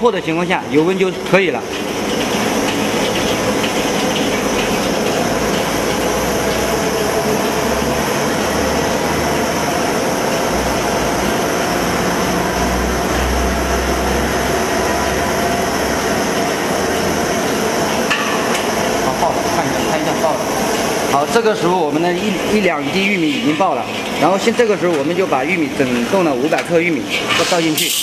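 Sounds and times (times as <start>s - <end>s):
popcorn machine stirring motor: 0.0s - 28.0s.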